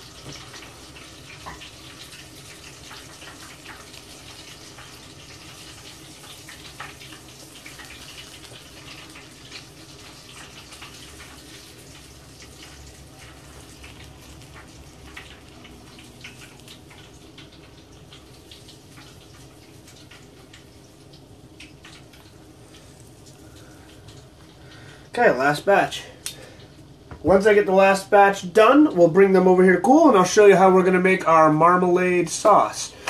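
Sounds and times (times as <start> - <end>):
crackles and pops of frying: 0.0 - 33.0
shrimp deep-frying in oil: 0.0 - 33.0.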